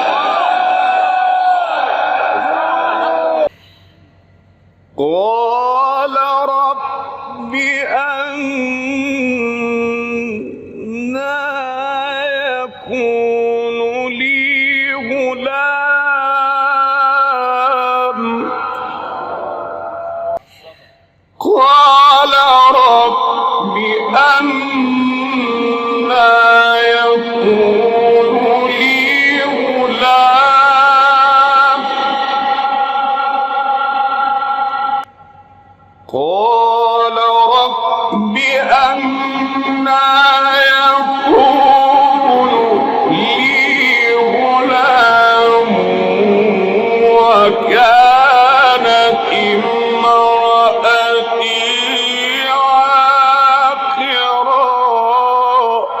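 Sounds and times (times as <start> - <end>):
man chanting melodically: 5.0 - 20.4, 21.4 - 35.1, 36.1 - 56.0.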